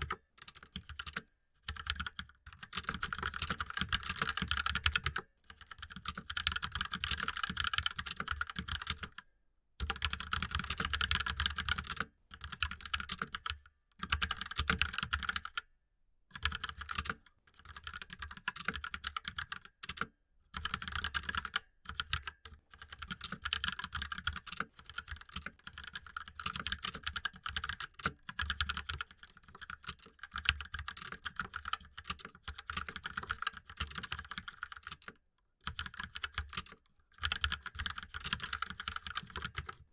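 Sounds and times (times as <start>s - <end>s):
fast typing on laptop keyboard: 0.0s - 15.6s, 16.4s - 39.9s.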